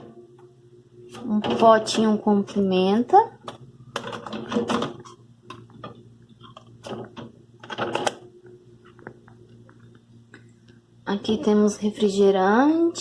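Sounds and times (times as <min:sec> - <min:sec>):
refrigerator hum: 0:00.0 - 0:13.0.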